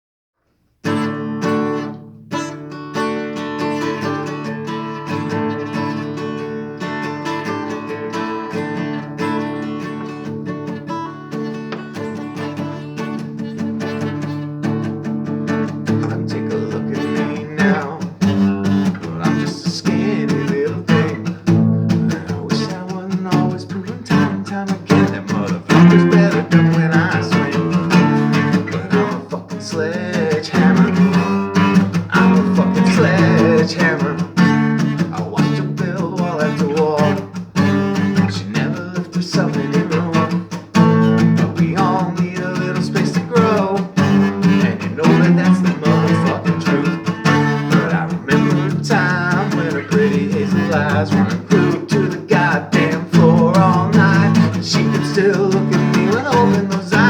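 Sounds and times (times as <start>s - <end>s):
guitar strumming chords: 0.8s - 57.0s.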